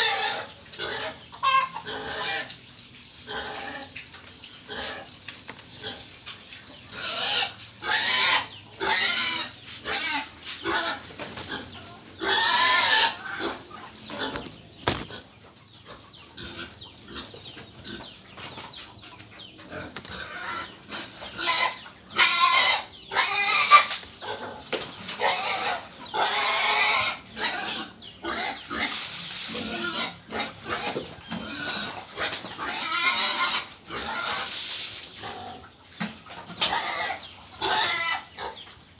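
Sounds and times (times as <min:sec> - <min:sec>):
pigs squealing: 0:00.0 - 0:02.6, 0:03.3 - 0:04.0, 0:04.7 - 0:05.1, 0:05.7 - 0:18.1, 0:19.7 - 0:35.8, 0:36.4 - 0:38.7.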